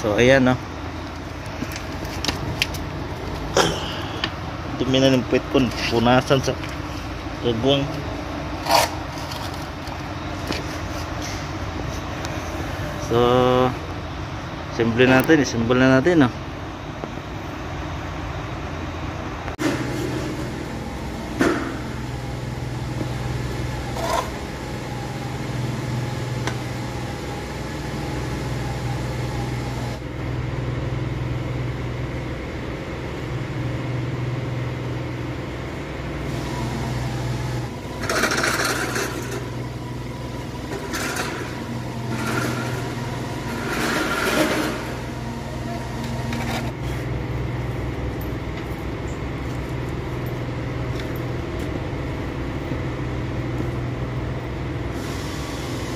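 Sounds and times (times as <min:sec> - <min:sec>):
low engine hum: 0:00.0 - 0:55.9.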